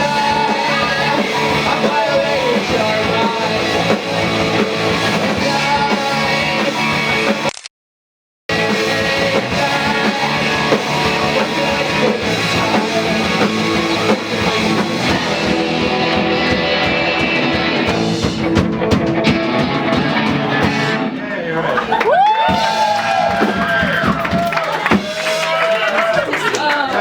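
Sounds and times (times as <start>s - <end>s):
bass guitar: 0.0s - 7.5s, 8.5s - 26.1s
drum kit: 0.0s - 7.5s, 8.5s - 21.4s, 22.1s - 26.3s
guitars: 0.0s - 7.5s, 8.5s - 25.4s.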